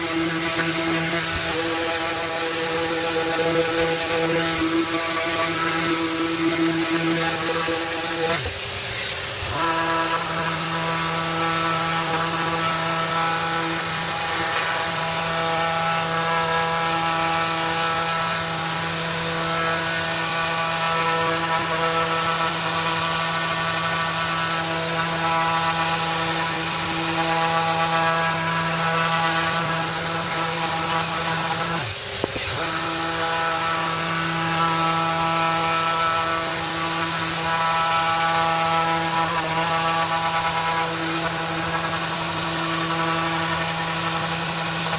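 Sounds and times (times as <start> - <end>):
orbital sander motor whine: 0.0 - 44.9
sandpaper scratching wood: 0.0 - 44.9.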